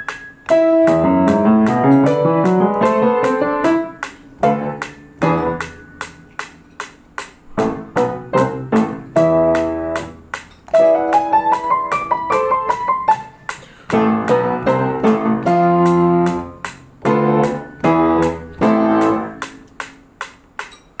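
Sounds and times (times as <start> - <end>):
upright piano chords: 0.0 - 20.2
metronome ticking: 0.0 - 21.0.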